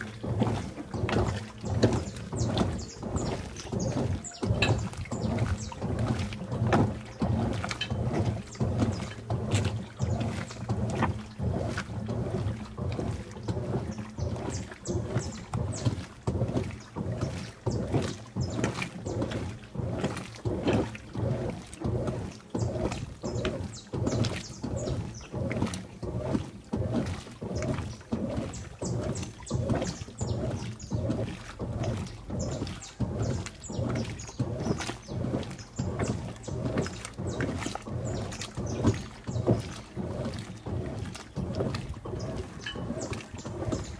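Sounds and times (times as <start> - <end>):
laundry sloshing in washing machine: 0.0 - 43.9
motor hum: 0.0 - 43.9.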